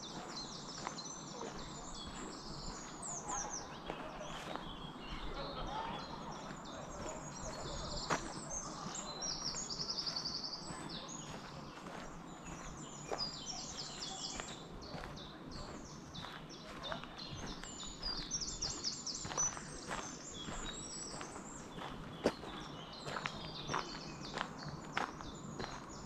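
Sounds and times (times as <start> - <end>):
birds singing and calling: 0.0 - 26.0
footsteps on forest path: 0.0 - 26.0.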